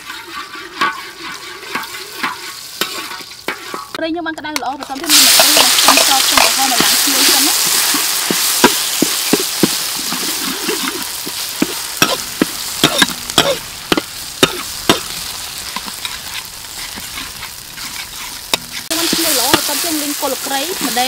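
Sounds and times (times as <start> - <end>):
metal ladle scraping wok: 0.0 - 4.0, 4.7 - 21.0
garlic sizzling in oil: 0.0 - 21.0.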